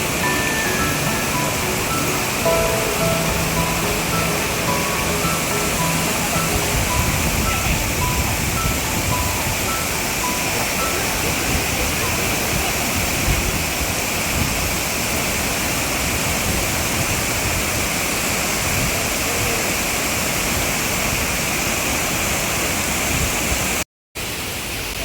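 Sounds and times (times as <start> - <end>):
waterfall and river rushing: 0.0 - 25.0.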